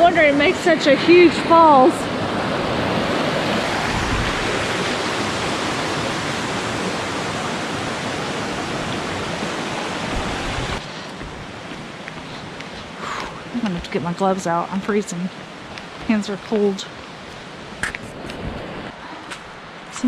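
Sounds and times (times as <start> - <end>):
fast-flowing creek rushing: 0.0 - 20.0.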